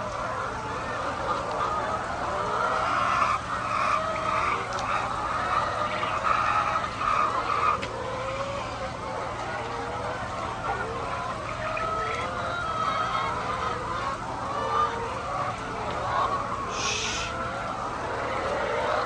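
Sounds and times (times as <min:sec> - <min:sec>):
poultry flock calling: 0:00.0 - 0:19.0.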